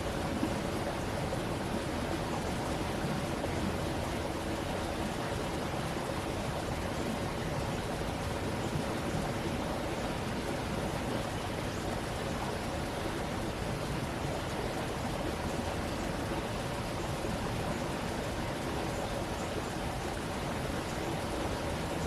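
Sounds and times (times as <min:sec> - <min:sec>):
stream of running water: 0:00.0 - 0:22.0.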